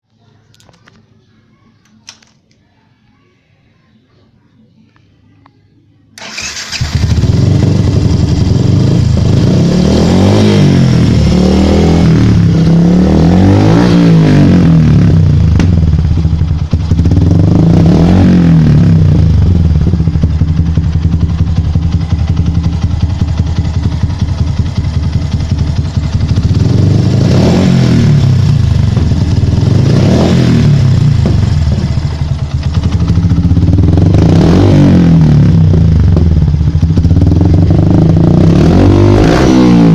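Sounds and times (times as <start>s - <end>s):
motorcycle engine revving: 6.2s - 39.9s.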